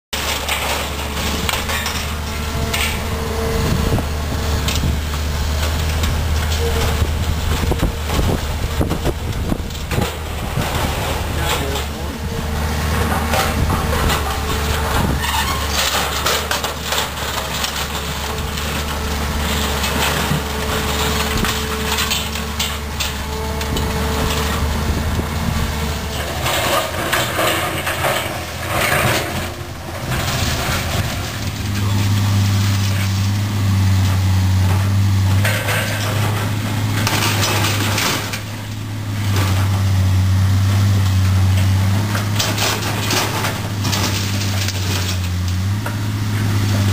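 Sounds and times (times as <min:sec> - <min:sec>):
heavy machinery engine running: 0:00.1 - 0:46.9
metal crunching and clattering: 0:00.1 - 0:46.9.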